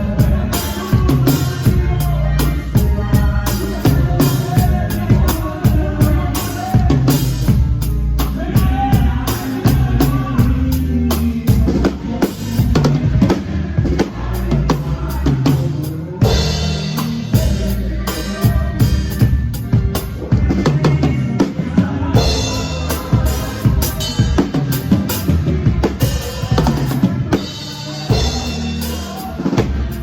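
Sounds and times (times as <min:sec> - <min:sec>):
live band music: 0:00.0 - 0:30.0
sustained bass notes: 0:00.0 - 0:30.0.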